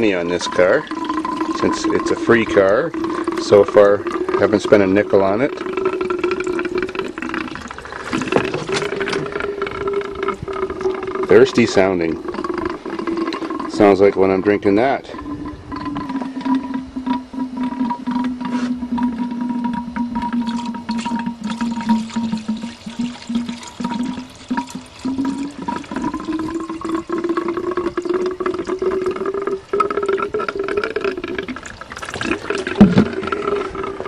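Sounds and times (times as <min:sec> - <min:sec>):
water gurgling into a tank: 0:00.0 - 0:34.0.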